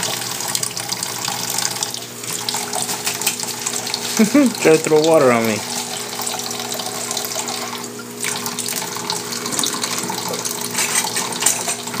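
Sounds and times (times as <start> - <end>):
faucet running into a sink: 0.0 - 12.0
steady hum: 0.0 - 12.0.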